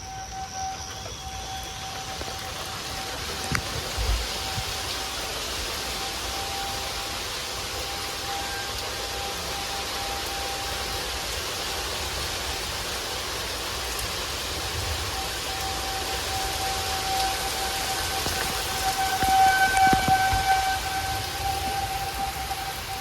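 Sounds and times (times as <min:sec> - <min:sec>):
distant warning siren: 0:00.0 - 0:23.0
steady rain falling: 0:00.0 - 0:23.0.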